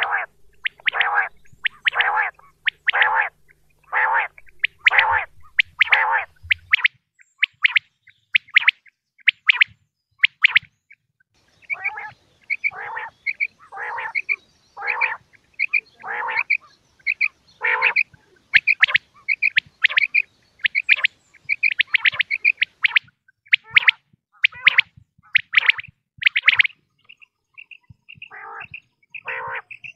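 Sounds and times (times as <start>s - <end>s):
low rough quail calls: 0.0s - 10.7s, 11.4s - 29.9s
quail calling in sharp notes: 0.0s - 29.9s.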